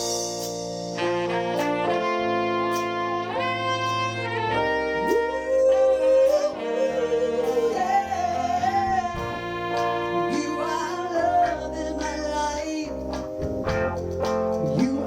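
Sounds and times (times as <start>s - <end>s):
saxophone melody: 0.0s - 15.0s
soul band playing: 0.0s - 15.0s.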